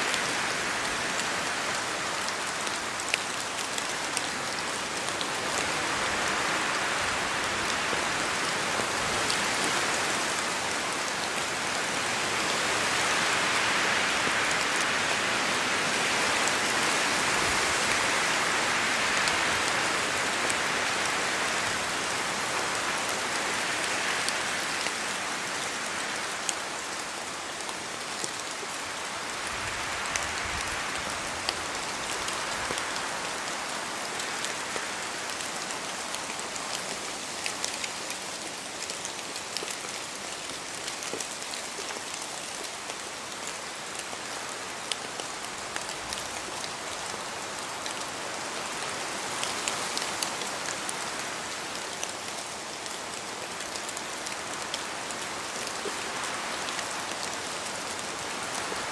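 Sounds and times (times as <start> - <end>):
rain pattering in forest: 0.0 - 58.9
wind gusts through trees: 0.0 - 58.9.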